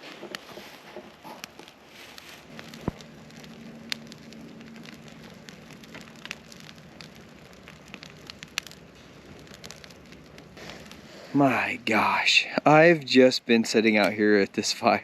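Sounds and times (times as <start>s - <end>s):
campfire crackling and popping: 0.0s - 15.0s
faint low hum: 2.4s - 15.0s.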